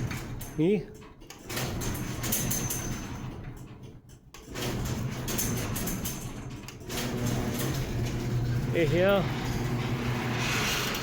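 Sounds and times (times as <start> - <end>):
garage door humming: 0.0 - 11.0.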